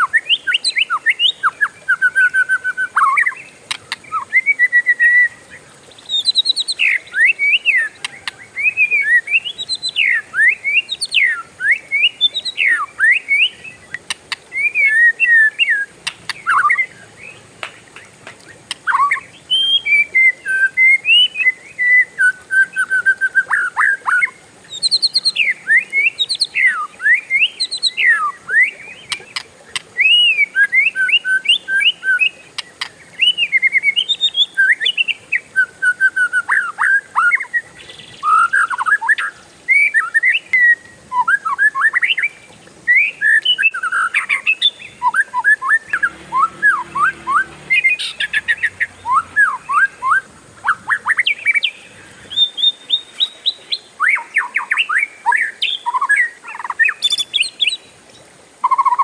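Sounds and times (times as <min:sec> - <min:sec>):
bird singing whistled phrases: 0:00.0 - 0:03.4, 0:04.0 - 0:17.0, 0:18.9 - 0:29.2, 0:30.0 - 0:32.4, 0:33.2 - 0:57.8, 0:58.6 - 0:59.0.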